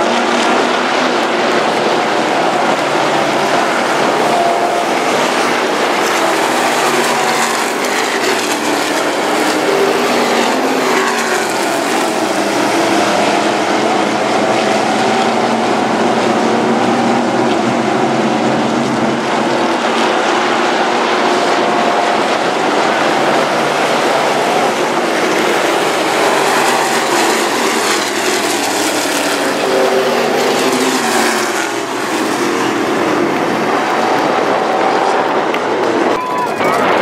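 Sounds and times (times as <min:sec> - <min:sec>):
race car engines roaring: 0:00.0 - 0:37.0.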